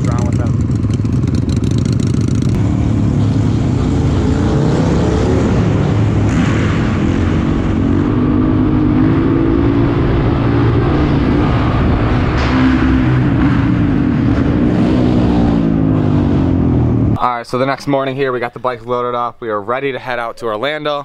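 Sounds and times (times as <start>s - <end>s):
dirt bike engine: 0.0s - 17.3s.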